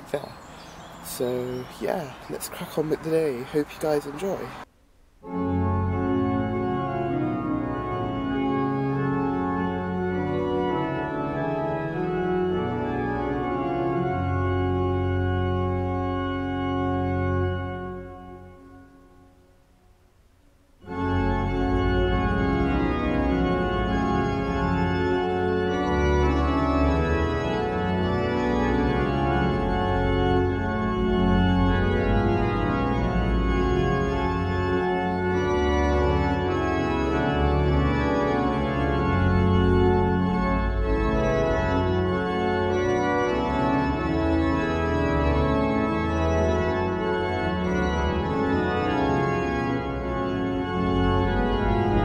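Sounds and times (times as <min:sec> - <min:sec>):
organ music: 0:00.0 - 0:19.8, 0:20.8 - 0:52.0.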